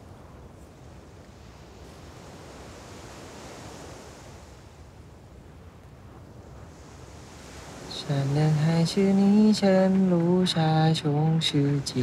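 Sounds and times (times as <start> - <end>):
sea waves washing: 0.0 - 12.0.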